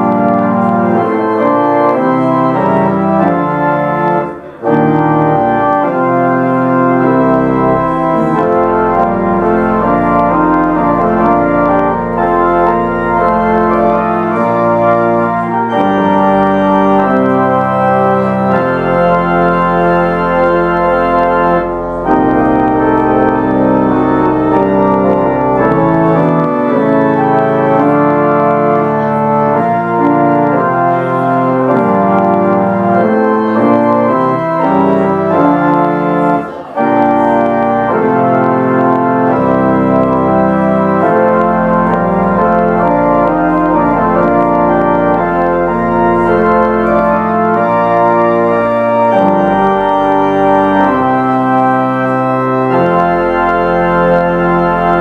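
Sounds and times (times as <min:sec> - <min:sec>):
organ playing held chords: 0:00.0 - 0:55.0.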